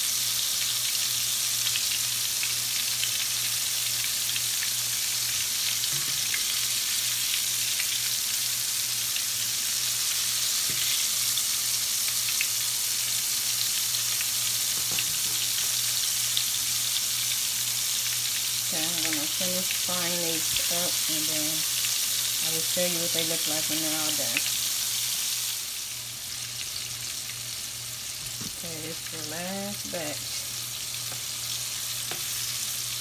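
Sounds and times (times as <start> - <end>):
shrimp deep-frying in hot oil: 0.0 - 33.0.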